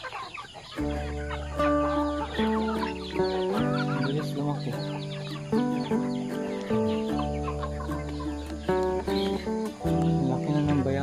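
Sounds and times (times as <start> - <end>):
hens clucking: 0.0 - 11.0
background music with bass line: 0.8 - 11.0.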